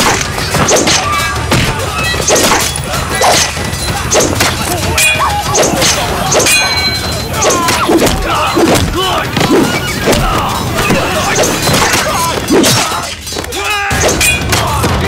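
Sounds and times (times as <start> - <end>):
steel swords clashing: 0.0 - 14.8.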